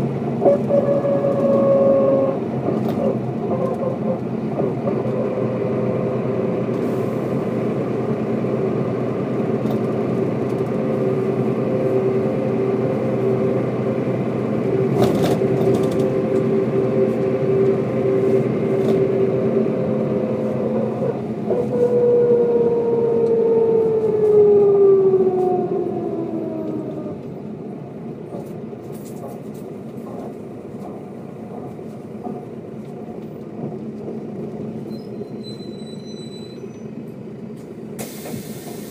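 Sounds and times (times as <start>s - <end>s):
bus engine whine: 0.0s - 38.9s.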